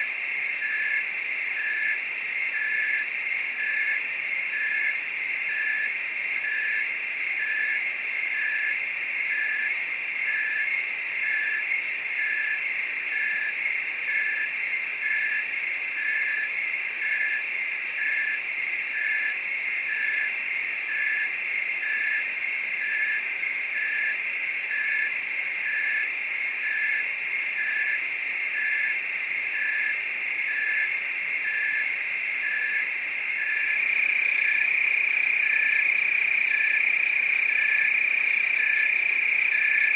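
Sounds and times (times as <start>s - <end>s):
crickets and frogs trilling: 0.0s - 39.9s.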